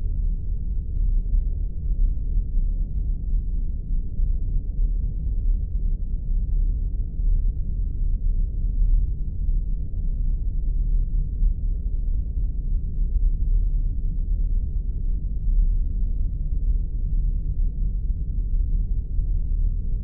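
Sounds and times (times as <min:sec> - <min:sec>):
deep spaceship rumble: 0:00.0 - 0:20.0.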